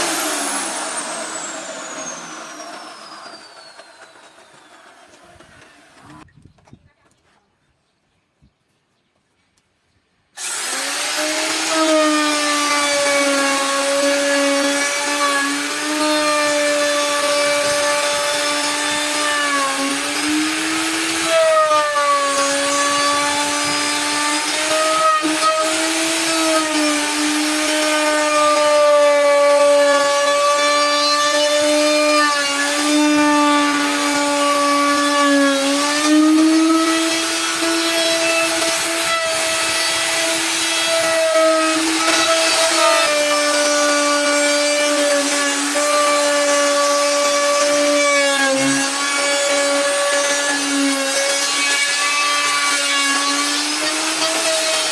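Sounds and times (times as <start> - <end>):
power tool cutting wood: 0.0 - 6.2, 10.4 - 54.9.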